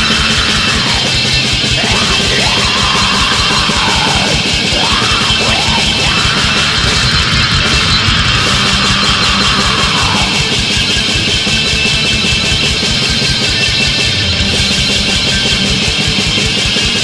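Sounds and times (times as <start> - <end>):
distorted guitars: 0.0 - 17.0
fast dense drumming: 0.0 - 17.0.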